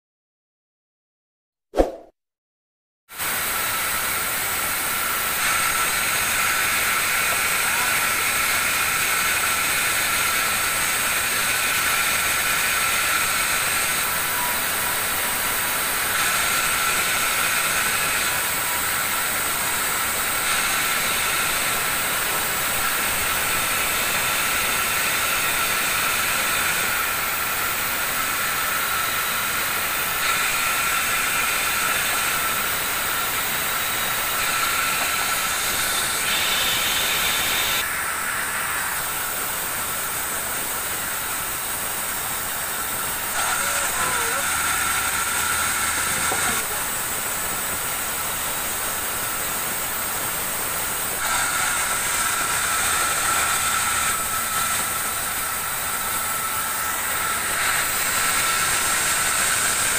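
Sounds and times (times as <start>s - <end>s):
band saw cutting wood: 3.2s - 59.9s.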